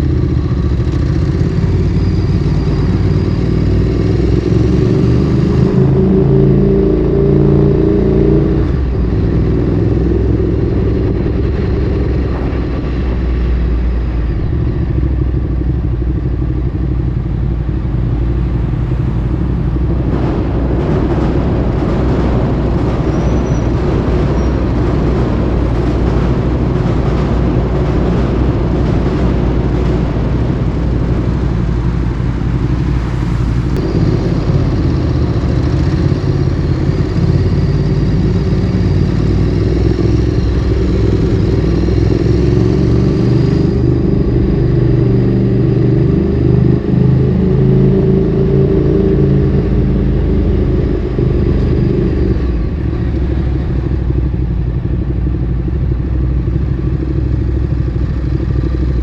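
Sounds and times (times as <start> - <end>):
motorcycle engine exhaust note: 0.0 - 59.0
wind and road noise: 0.0 - 59.0.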